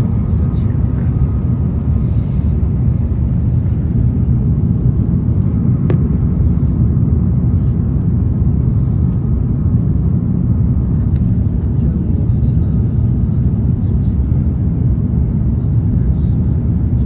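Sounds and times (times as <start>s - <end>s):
airliner engines rumbling in cabin: 0.0s - 17.0s.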